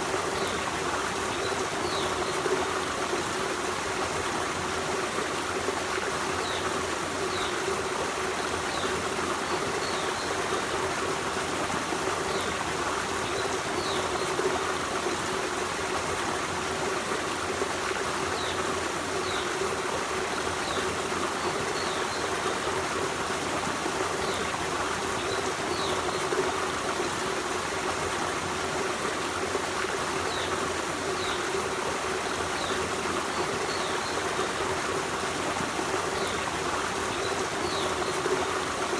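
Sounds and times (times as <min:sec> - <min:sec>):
stream burbling over stones: 0:00.0 - 0:38.9.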